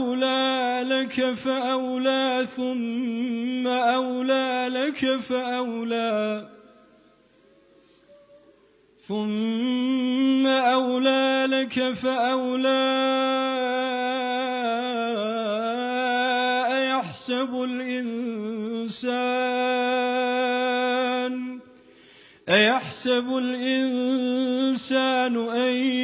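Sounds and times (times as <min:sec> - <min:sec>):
man chanting melodically: 0:00.0 - 0:07.0, 0:09.0 - 0:21.8, 0:22.4 - 0:26.0.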